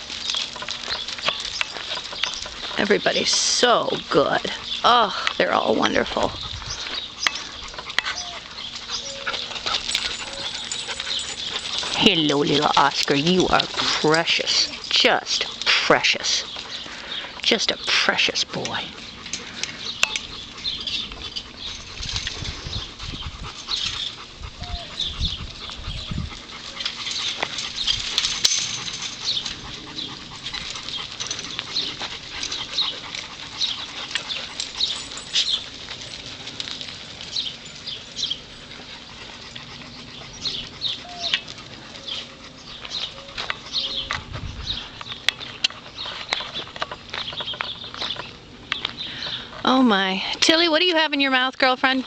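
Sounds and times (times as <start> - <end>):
dogs moving about: 0.0 - 49.7.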